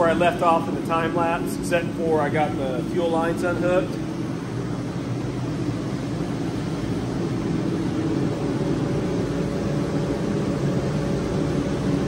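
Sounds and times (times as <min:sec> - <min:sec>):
heater rushing noise: 0:00.0 - 0:12.0.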